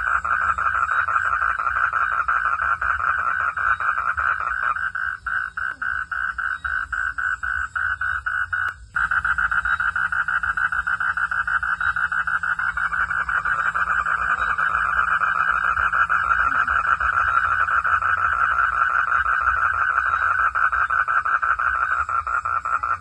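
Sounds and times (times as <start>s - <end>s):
frogs calling in pulsed trill: 0.0s - 23.0s.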